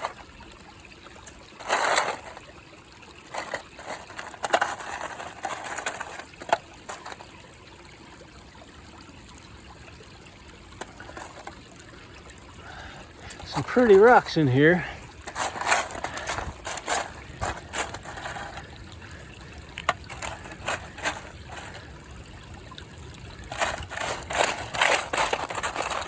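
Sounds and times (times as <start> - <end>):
pan scooping through streambed: 0.0 - 8.0, 9.5 - 26.0
creek water trickling: 0.0 - 26.0.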